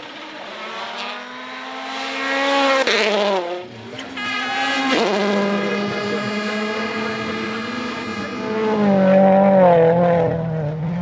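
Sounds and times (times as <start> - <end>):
rally car engine passing by: 0.0 - 11.0
second rally car engine: 0.0 - 11.0.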